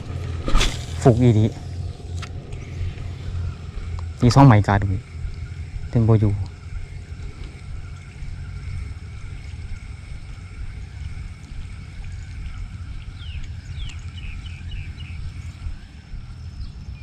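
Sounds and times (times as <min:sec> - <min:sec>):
falling chirps: 0:00.0 - 0:17.0
steady low rumble: 0:00.0 - 0:17.0.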